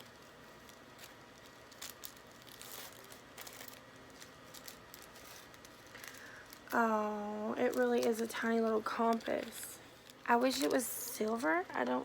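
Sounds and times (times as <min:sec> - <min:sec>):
packaging rustling and crinkling: 0:00.0 - 0:11.6.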